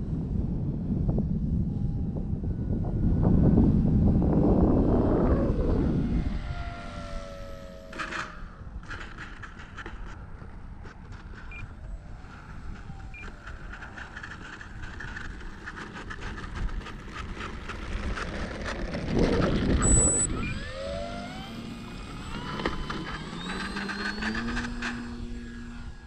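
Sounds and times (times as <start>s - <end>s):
wind noise on microphone: 0.0s - 26.0s
model plane motor whining: 4.7s - 26.0s.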